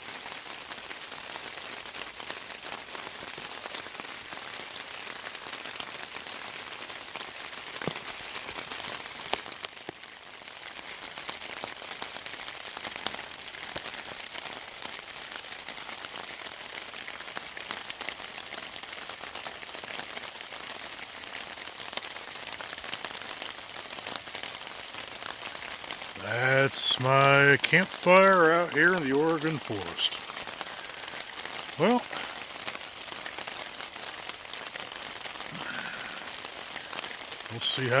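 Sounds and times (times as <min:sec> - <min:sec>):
rain falling on a tarp: 0:00.0 - 0:38.0.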